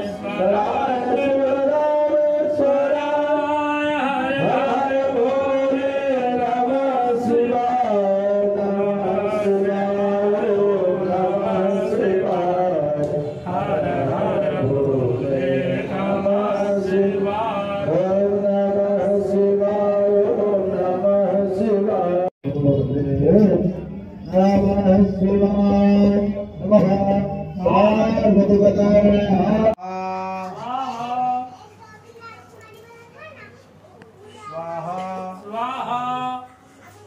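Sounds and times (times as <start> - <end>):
mantras chanted: 0.0 - 31.9, 34.4 - 37.0.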